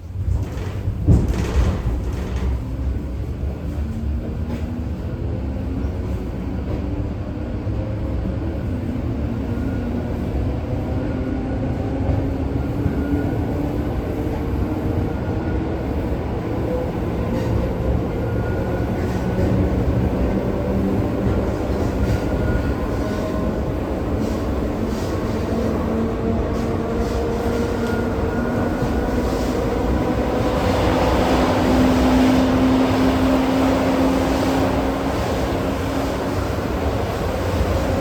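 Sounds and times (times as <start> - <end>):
electric train rumble: 0.0 - 38.0.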